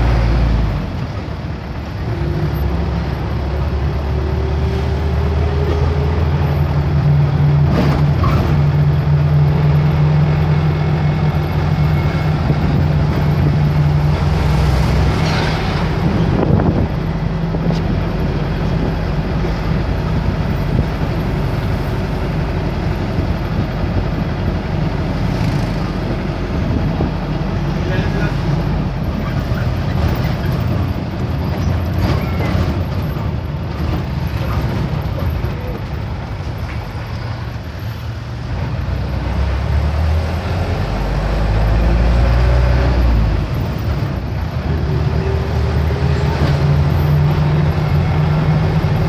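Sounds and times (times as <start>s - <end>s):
road noise inside vehicle: 0.0s - 49.0s.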